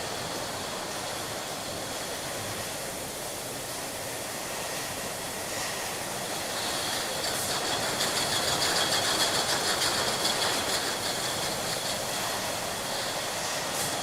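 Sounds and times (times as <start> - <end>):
steady machine noise: 0.0 - 14.0.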